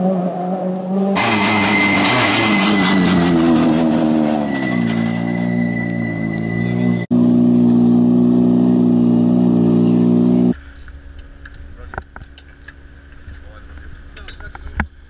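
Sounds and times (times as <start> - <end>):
rally car engine running: 0.1 - 15.0.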